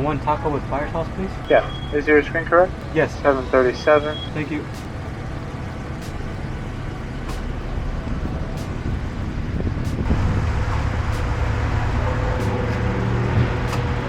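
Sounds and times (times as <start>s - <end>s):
road noise: 0.0s - 14.0s
car engine from inside: 1.4s - 14.0s.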